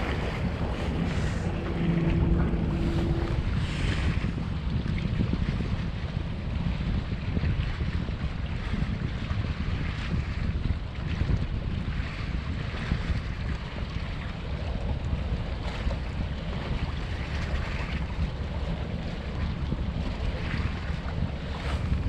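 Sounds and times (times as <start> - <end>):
rush of wind: 0.0 - 22.0
sea waves: 0.0 - 22.0
wind buffeting microphone: 0.0 - 22.0.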